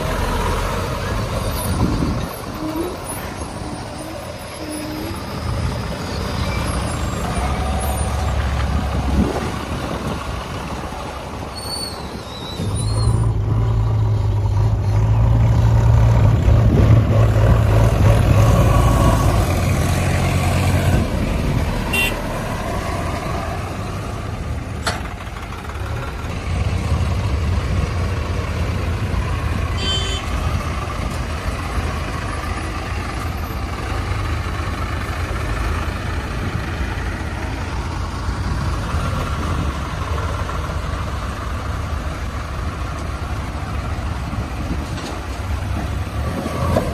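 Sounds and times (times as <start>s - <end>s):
diesel engines droning: 0.0s - 46.9s.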